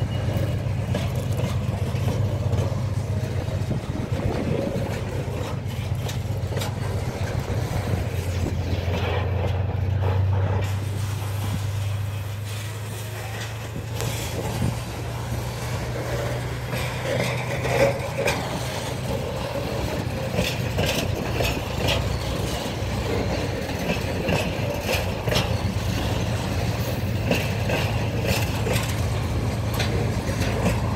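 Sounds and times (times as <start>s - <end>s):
diesel locomotive engine drone: 0.0s - 30.9s
train wheels clattering on rails: 0.0s - 30.9s.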